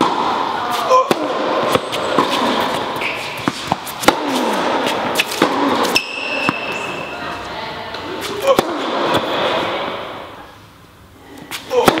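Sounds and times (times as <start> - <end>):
tennis balls struck by rackets: 0.0 - 7.0, 8.0 - 10.3, 11.5 - 12.0
tennis balls bouncing on court: 0.0 - 10.2.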